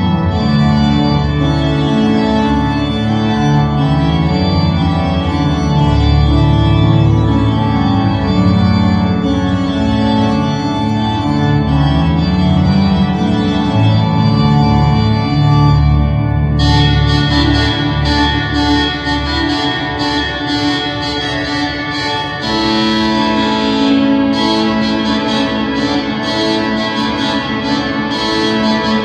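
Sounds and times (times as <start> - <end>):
pipe organ playing chords: 0.0 - 29.0.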